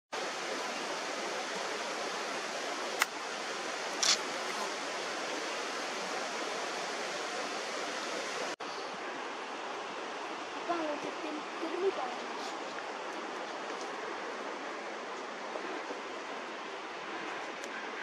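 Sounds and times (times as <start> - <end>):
creek water running: 0.1 - 18.0.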